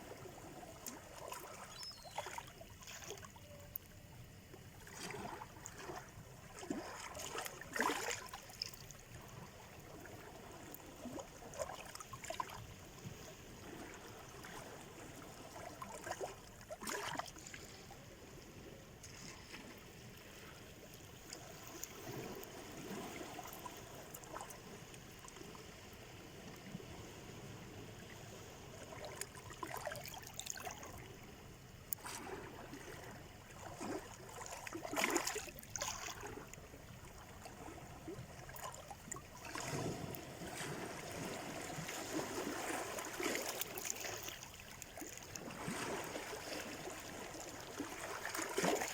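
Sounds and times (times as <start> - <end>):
small waves washing on shore: 0.0 - 48.9.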